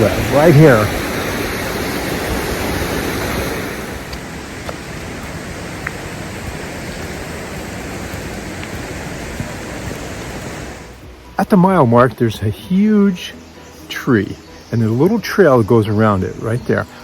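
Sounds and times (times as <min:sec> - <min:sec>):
flowing creek water: 0:00.0 - 0:17.0.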